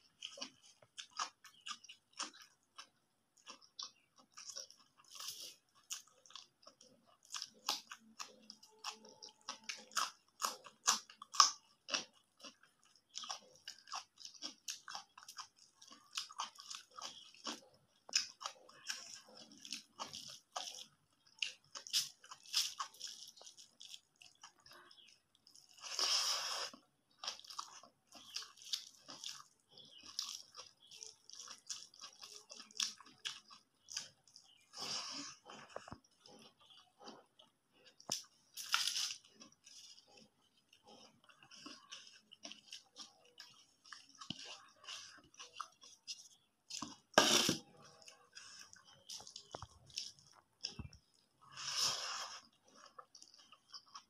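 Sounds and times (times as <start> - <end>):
chewing: 0.0 - 54.0
fingers squishing rice: 0.0 - 54.0.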